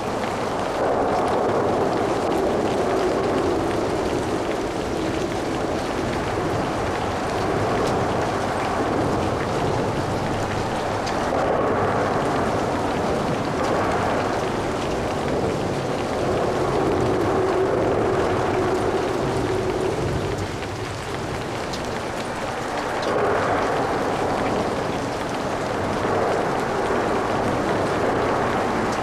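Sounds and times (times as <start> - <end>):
steady rain: 0.0 - 29.0
traffic on wet roads: 0.0 - 29.0.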